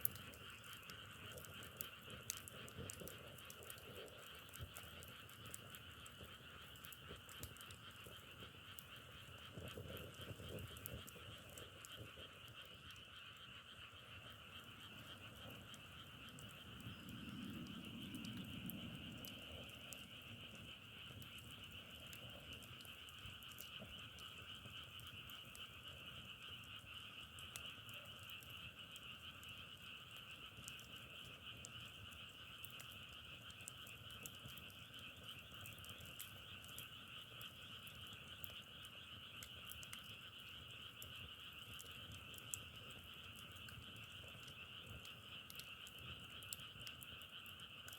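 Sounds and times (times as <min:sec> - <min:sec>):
faint clicks: 0:00.0 - 0:47.9
frog chorus trilling: 0:00.0 - 0:47.9.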